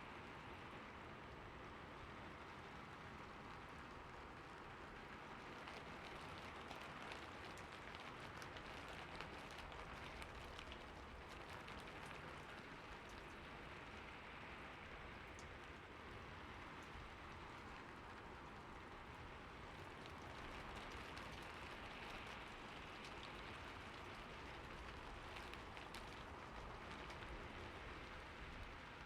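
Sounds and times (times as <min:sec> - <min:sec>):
soft rainfall: 0:00.0 - 0:29.0
raindrop ticks: 0:05.0 - 0:29.0.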